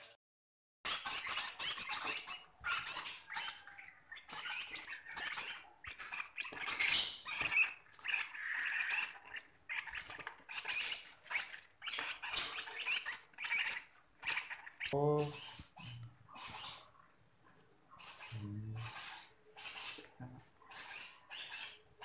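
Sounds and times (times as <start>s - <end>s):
bird chicks begging calls: 0.9s - 17.0s, 17.9s - 22.0s.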